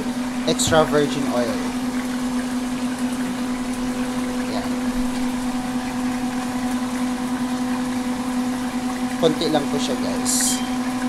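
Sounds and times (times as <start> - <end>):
higher hum: 0.0 - 10.9
kitchen appliance electrical hum: 0.0 - 11.0.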